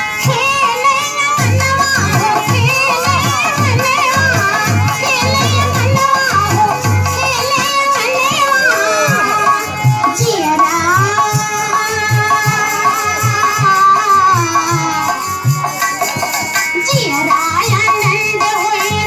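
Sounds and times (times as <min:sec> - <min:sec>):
hand-drum beats: 0:00.0 - 0:19.0.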